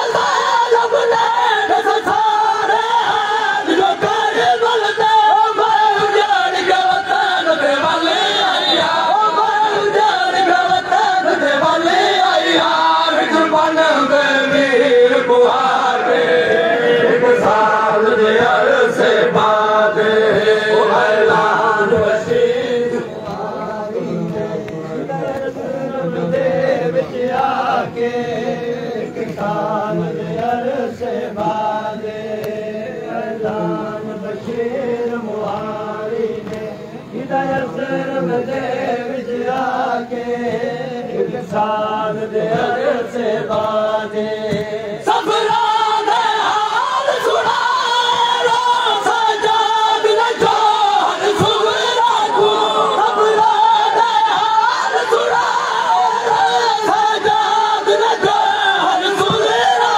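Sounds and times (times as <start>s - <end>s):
men chanting a lament: 0.0s - 59.9s.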